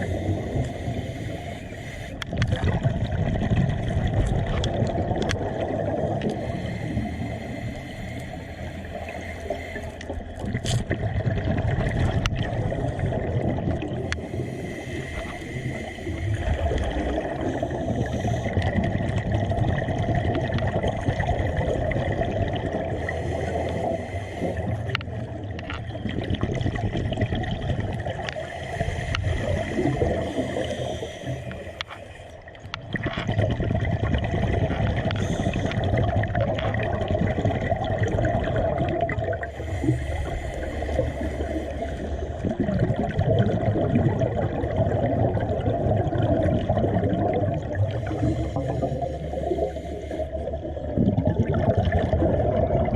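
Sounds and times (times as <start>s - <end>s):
water gurgling and bubbling: 0.0s - 52.9s.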